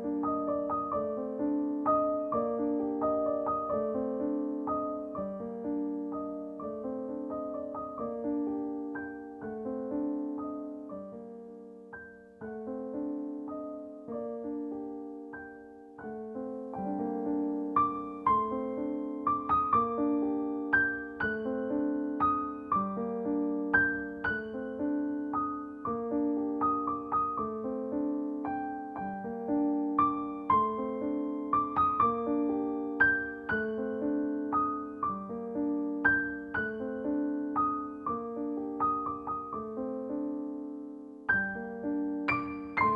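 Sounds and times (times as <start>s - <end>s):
gentle solo piano: 0.0s - 42.9s.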